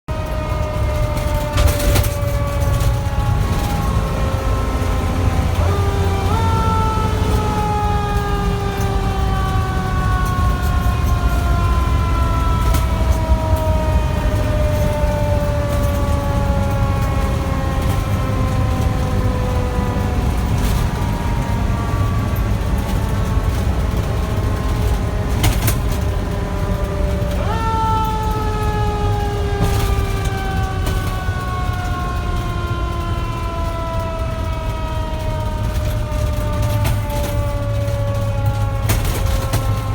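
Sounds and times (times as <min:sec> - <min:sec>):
mechanical siren wailing: 0:00.1 - 0:39.9
truck engine rumble: 0:00.1 - 0:39.9.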